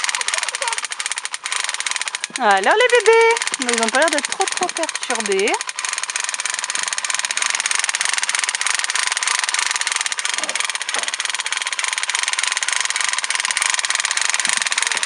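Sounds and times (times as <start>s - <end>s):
toy gun rattling: 0.0s - 15.0s.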